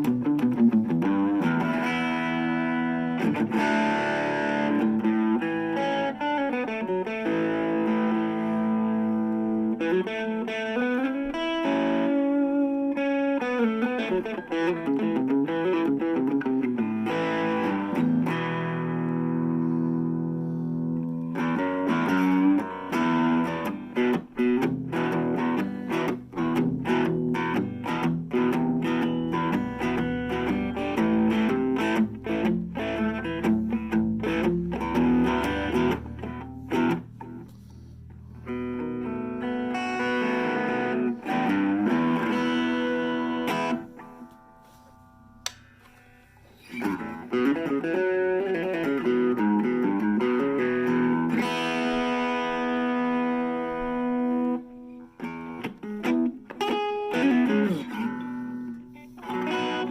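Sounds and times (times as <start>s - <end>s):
electric guitar notes and chords: 0.0s - 59.9s.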